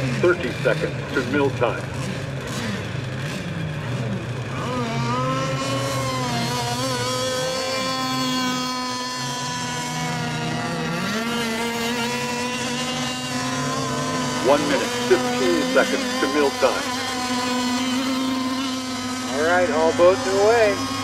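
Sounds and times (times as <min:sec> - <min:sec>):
high engine whine: 0:00.0 - 0:21.0
model boat engines revving: 0:00.0 - 0:21.0.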